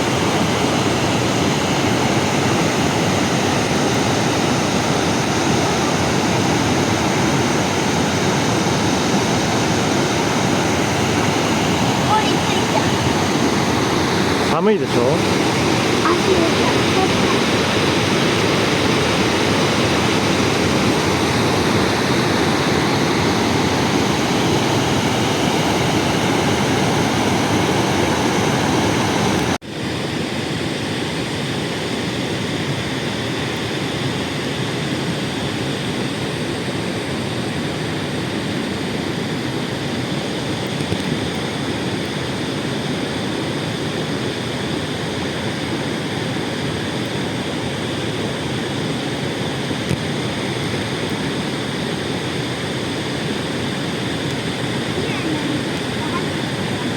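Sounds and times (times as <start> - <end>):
river water rushing: 0.0 - 29.9, 36.7 - 56.9.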